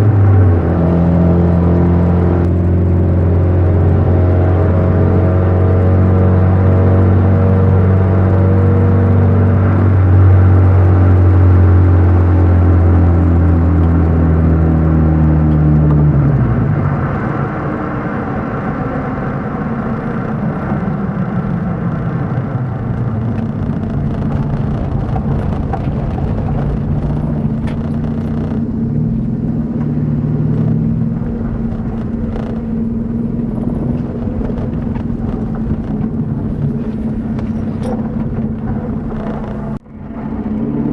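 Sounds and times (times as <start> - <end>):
car engine and exhaust droning: 0.0 - 40.9.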